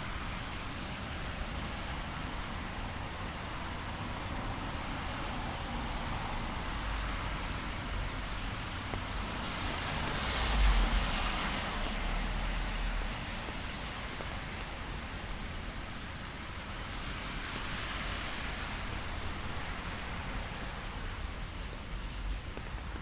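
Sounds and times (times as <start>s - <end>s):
light rain on street: 0.0s - 23.0s
traffic on wet road: 0.0s - 23.0s.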